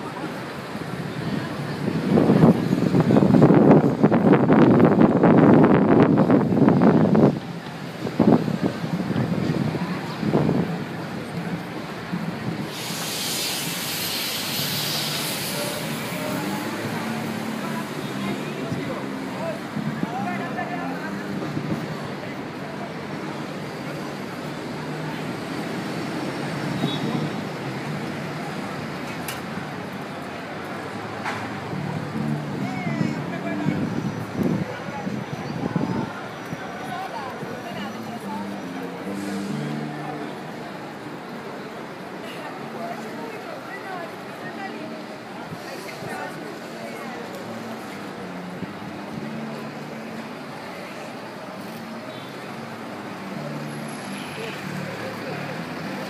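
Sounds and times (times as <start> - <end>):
street traffic passing: 0.0 - 56.0.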